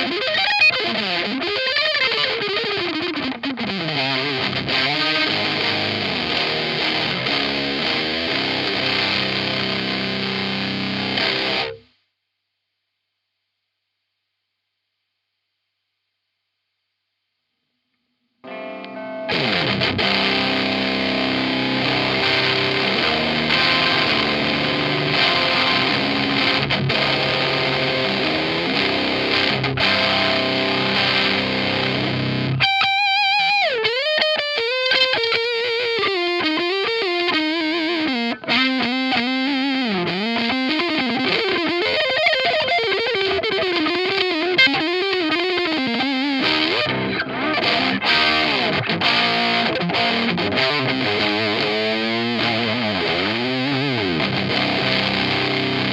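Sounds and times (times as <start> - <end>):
distorted electric guitar chord: 0.0 - 11.8, 18.4 - 55.9
electric guitar lead with bends: 0.0 - 11.8, 18.4 - 55.9.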